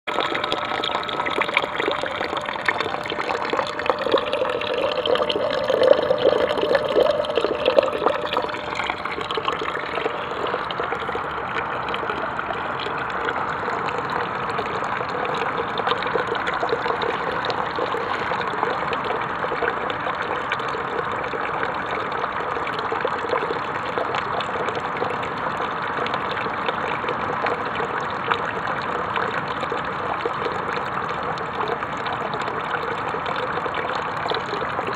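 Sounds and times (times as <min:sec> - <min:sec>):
water pouring from pipe into tub: 0:00.1 - 0:34.9.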